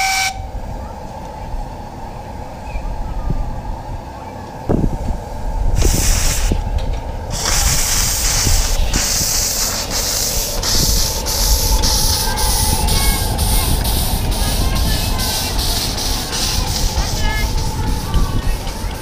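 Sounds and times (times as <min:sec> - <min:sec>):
steam locomotive hissing and chuffing: 0:00.0 - 0:19.0.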